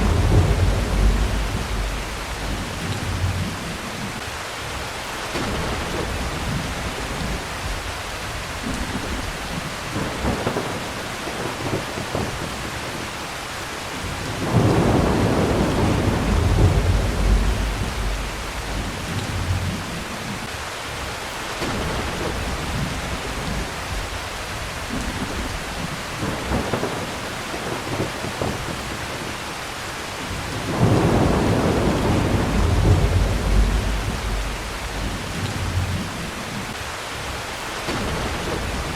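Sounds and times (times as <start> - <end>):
low rolls of thunder: 0.0 - 4.2, 4.8 - 13.2, 13.9 - 20.5, 21.6 - 29.4, 30.3 - 36.8, 37.9 - 38.9
heavy rain falling: 0.0 - 38.9.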